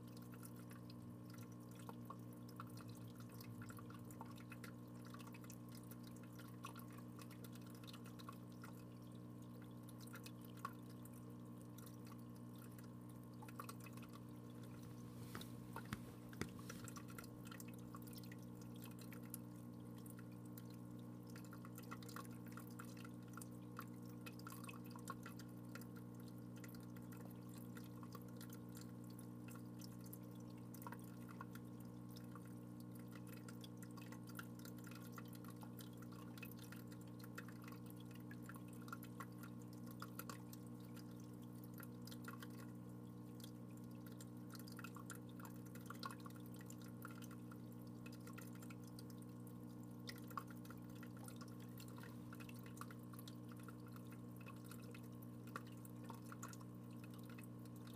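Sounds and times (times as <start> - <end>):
water dripping: 0.0 - 57.9
faint low hum: 0.1 - 57.9.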